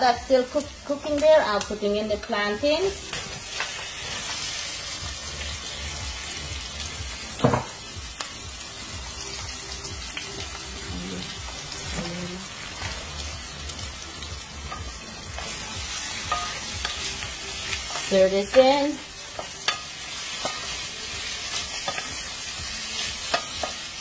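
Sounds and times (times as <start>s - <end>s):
vegetables sizzling in frying pan: 0.0s - 24.0s.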